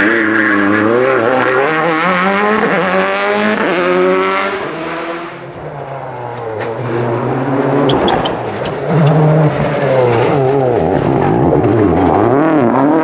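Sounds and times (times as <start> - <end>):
rally car engines racing: 0.0 - 13.0.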